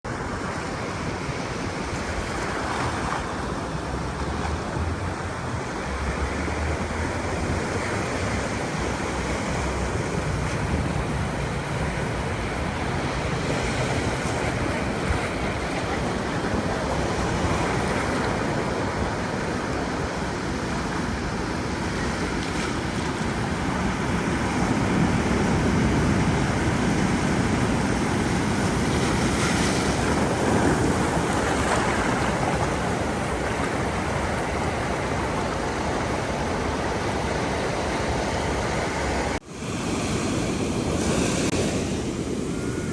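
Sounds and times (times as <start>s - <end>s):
wind: 0.0s - 42.9s
waves breaking on beach: 0.1s - 42.9s.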